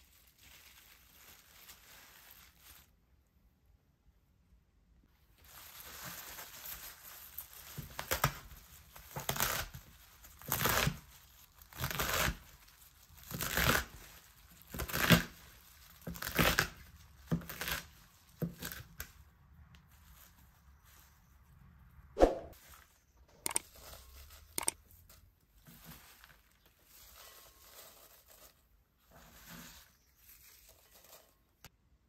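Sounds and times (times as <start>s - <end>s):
leaves rustling: 0.0s - 3.0s, 5.2s - 18.8s, 19.9s - 21.5s, 22.4s - 31.5s.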